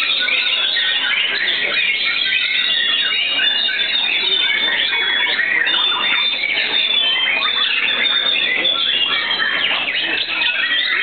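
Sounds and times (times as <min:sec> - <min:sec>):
chorus of songbirds whistling: 0:00.0 - 0:11.0.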